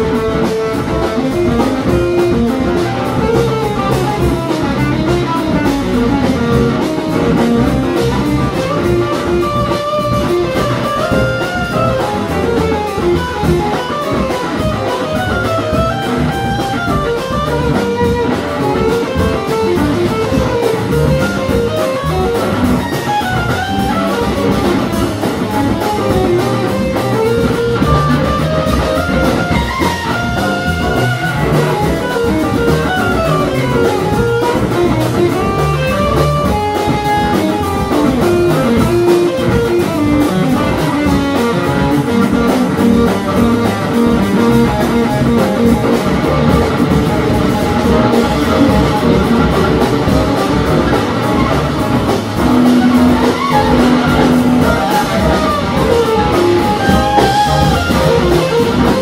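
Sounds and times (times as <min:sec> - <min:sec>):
electric guitar solo: 0:00.0 - 0:59.0
jazz band backing: 0:00.0 - 0:59.0.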